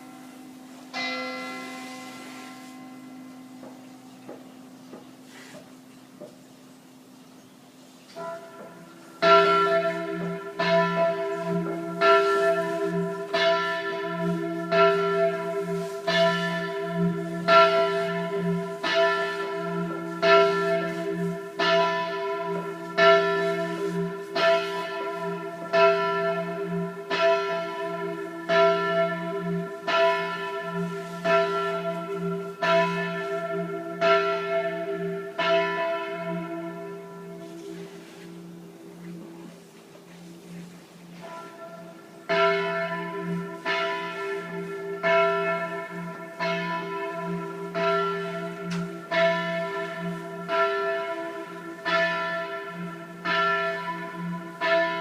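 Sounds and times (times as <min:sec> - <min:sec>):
church bells ringing: 0:00.0 - 0:07.4, 0:08.1 - 0:55.0.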